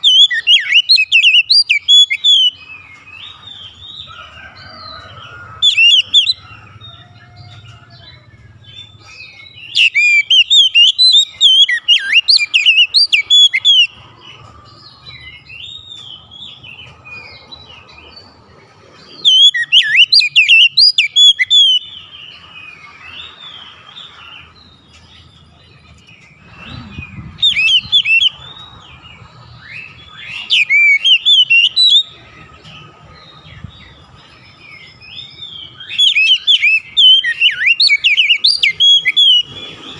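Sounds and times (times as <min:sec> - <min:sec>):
bird singing whistled notes: 0:00.0 - 0:04.2, 0:04.9 - 0:14.0, 0:19.2 - 0:39.9.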